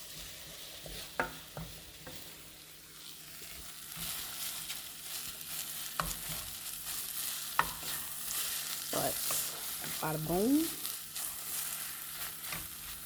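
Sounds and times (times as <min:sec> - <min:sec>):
greens sizzling in a pot: 0:00.0 - 0:13.0.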